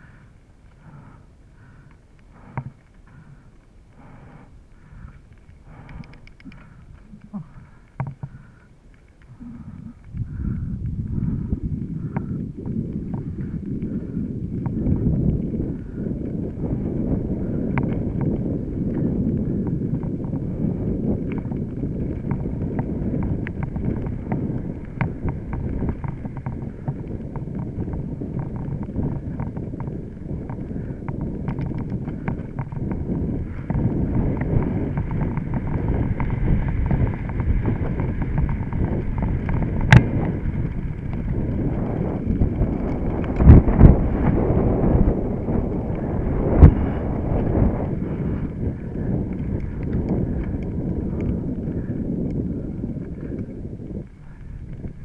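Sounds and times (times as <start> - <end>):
bike clicks and rattles: 0.0 - 55.0
wind buffeting microphone: 0.0 - 55.0.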